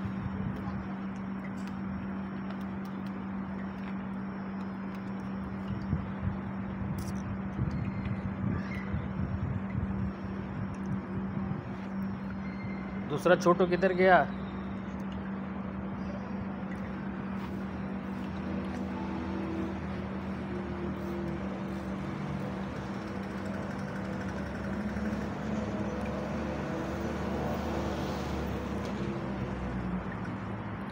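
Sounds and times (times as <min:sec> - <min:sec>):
steady mechanical hum: 0:00.0 - 0:27.1
steady background noise: 0:00.0 - 0:30.9.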